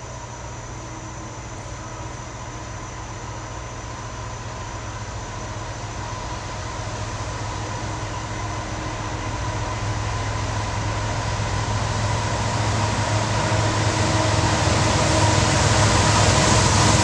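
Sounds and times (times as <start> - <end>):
diesel locomotives rumbling: 0.0 - 17.0.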